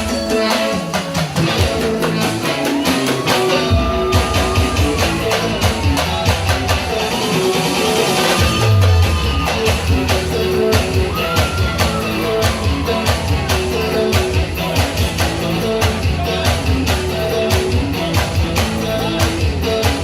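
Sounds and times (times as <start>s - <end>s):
drum beat: 0.0s - 20.0s
live band playing: 0.0s - 20.0s.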